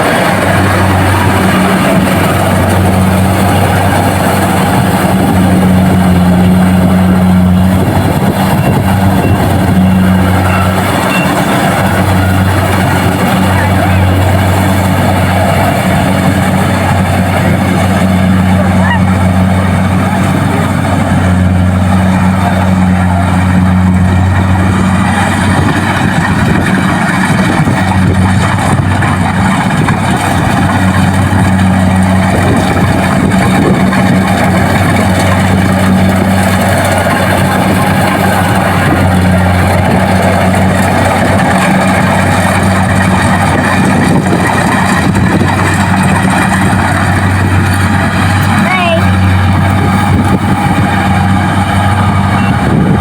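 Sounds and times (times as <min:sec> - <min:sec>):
combine harvester diesel drone: 0:00.0 - 0:53.0.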